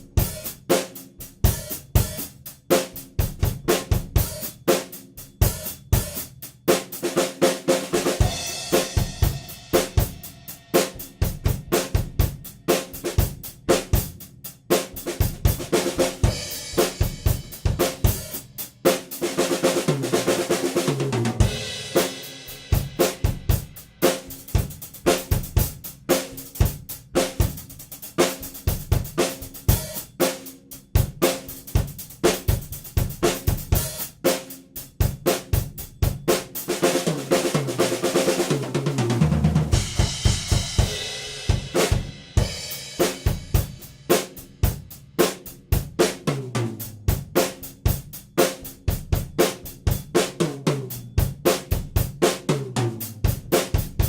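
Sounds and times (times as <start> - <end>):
drum kit playing a groove: 0.0 - 54.0.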